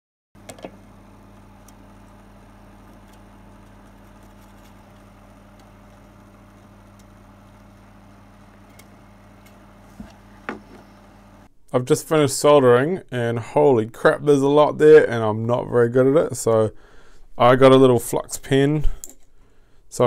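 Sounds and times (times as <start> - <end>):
low electrical hum: 0.4 - 20.0.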